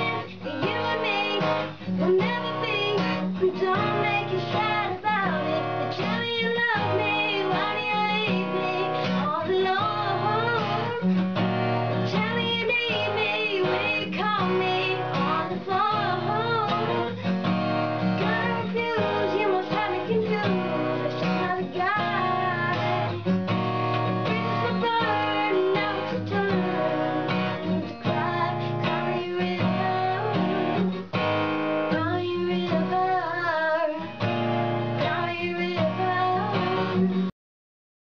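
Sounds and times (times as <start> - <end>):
boy singing: 0.0 - 11.1, 12.1 - 17.2, 18.2 - 23.2, 24.2 - 30.4, 31.9 - 34.1, 35.0 - 36.7
acoustic guitar strumming: 0.0 - 37.3.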